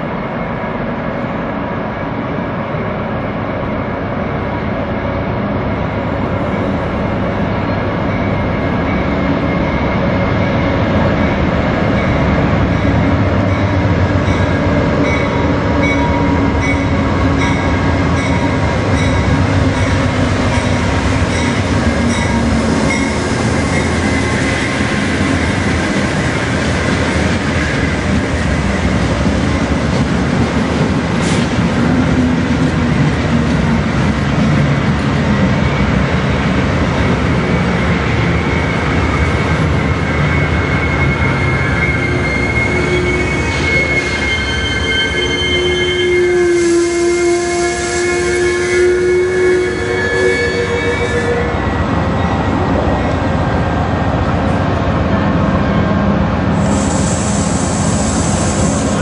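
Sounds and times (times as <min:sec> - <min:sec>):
diesel locomotive engine rumble: 0:00.0 - 0:59.0
train wheels rolling on rails: 0:00.0 - 0:59.0.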